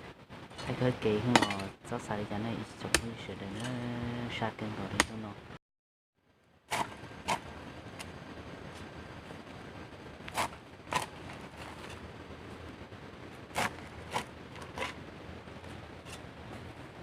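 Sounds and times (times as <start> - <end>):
steady low hiss: 0.0 - 5.6, 6.2 - 17.0.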